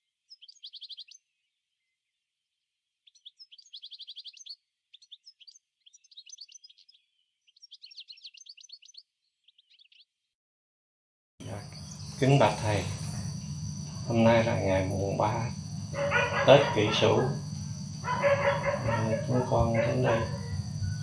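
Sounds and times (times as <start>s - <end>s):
songbird trilling: 0.2s - 2.0s, 3.0s - 10.1s, 11.4s - 21.0s.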